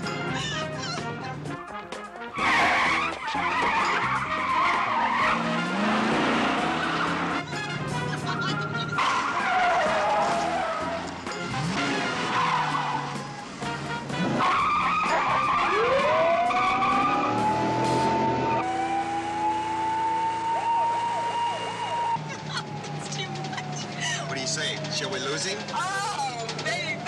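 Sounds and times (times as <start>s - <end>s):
engines revving: 0.0s - 27.0s
tyres squealing and skidding: 0.0s - 27.0s
police siren wailing: 0.3s - 27.0s.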